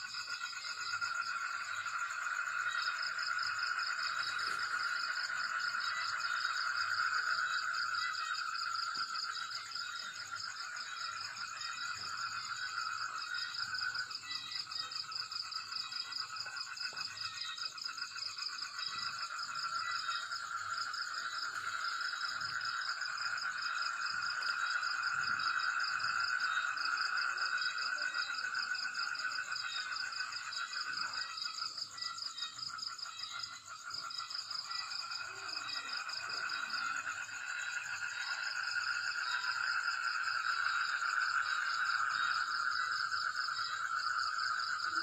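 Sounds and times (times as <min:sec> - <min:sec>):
crickets trilling: 0:00.0 - 0:45.0
frogs trilling: 0:00.0 - 0:45.0.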